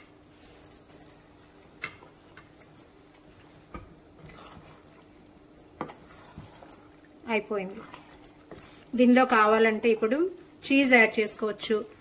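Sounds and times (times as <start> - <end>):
pasta being stirred: 1.4 - 11.2.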